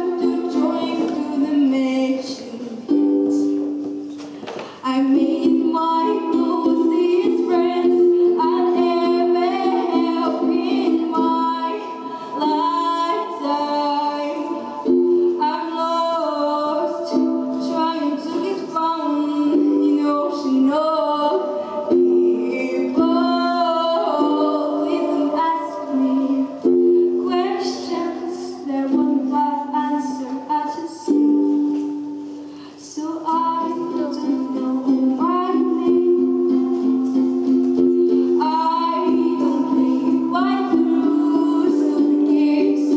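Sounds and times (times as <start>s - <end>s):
girl singing: 0.0s - 4.1s, 4.7s - 42.9s
instrumental accompaniment: 0.0s - 42.9s.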